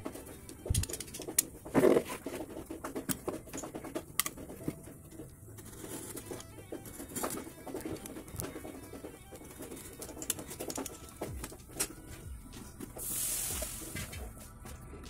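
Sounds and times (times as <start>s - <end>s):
clicks scrapes and rustles of handling: 0.0s - 13.0s.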